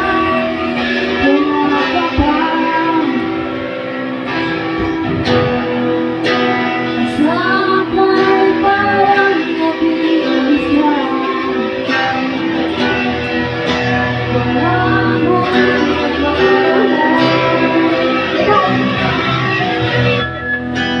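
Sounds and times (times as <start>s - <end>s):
person singing: 0.0s - 20.1s
band playing: 0.0s - 20.9s
guitar: 0.0s - 21.0s.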